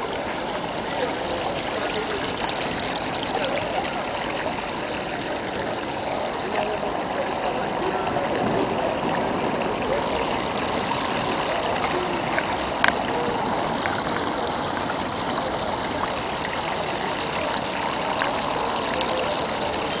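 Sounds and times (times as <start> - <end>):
water flowing in shallow pools: 0.0 - 20.0.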